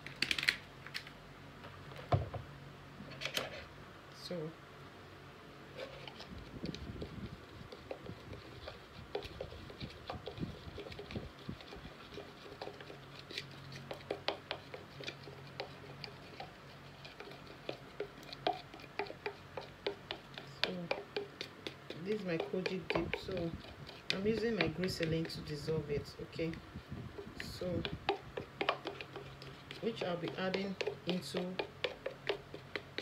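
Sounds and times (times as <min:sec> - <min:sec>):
stirrer scraping plastic jug: 0:05.7 - 0:33.0.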